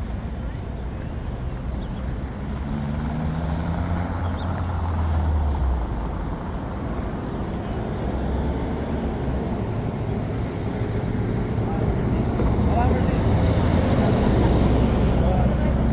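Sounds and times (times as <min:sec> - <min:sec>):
street traffic: 0:00.0 - 0:15.9
heavy vehicle engine passing: 0:02.0 - 0:15.9.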